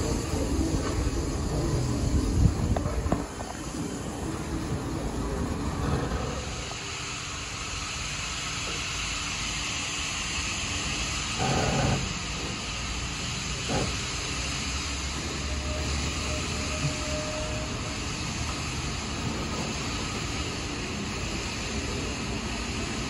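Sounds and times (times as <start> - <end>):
steam train hissing and rumbling: 0.0 - 23.0.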